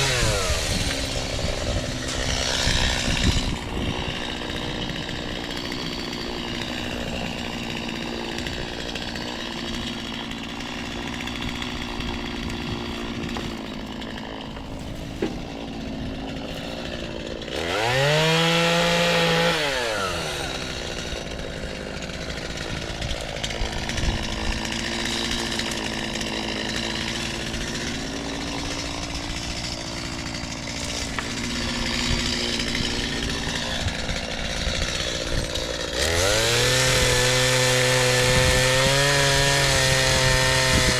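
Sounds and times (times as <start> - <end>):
chainsaw engine idling and revving: 0.0 - 40.9.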